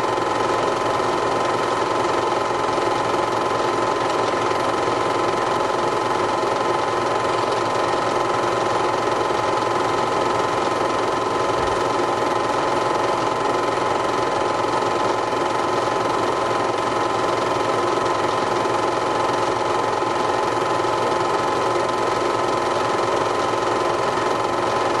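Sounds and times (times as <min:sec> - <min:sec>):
small machine whirring and rattling: 0:00.0 - 0:25.0.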